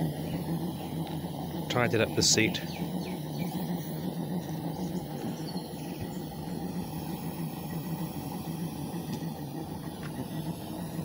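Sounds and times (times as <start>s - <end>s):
gas burner roaring: 0.0s - 11.0s.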